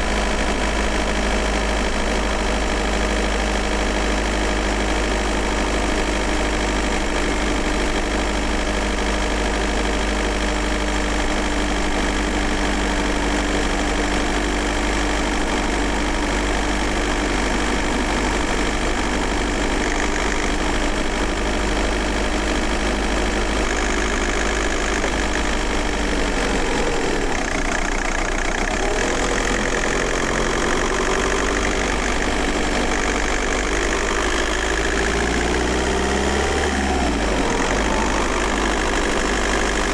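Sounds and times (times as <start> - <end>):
diesel car engine running: 0.0 - 39.9.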